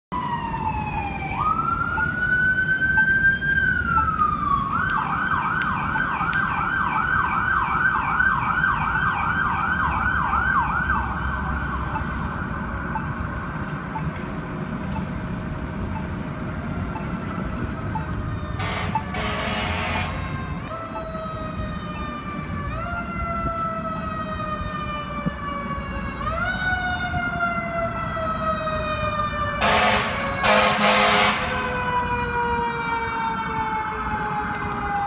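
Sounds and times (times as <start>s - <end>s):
fire engine siren wailing and yelping: 0.1s - 35.0s
low rumble of traffic: 0.1s - 35.0s.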